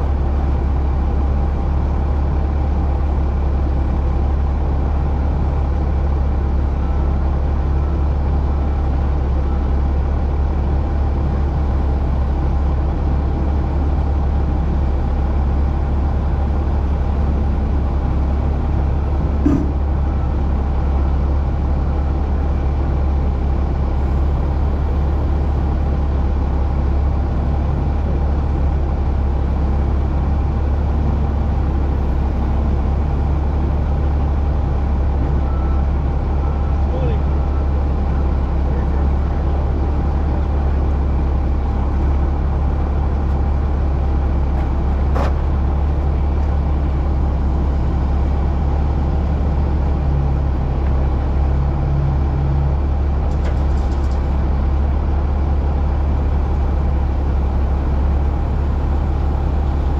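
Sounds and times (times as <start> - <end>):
truck engine droning: 0.0 - 59.9.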